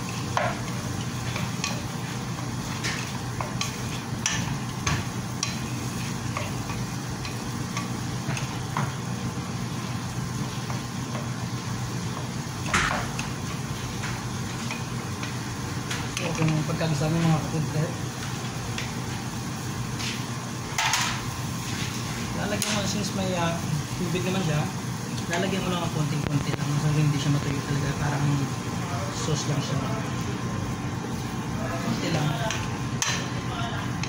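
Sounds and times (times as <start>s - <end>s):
vegetables sizzling: 0.0s - 34.0s.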